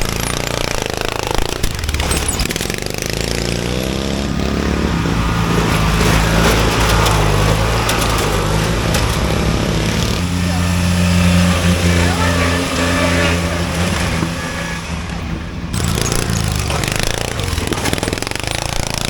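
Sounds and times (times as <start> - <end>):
lawn mower engine revving: 0.0 - 19.0.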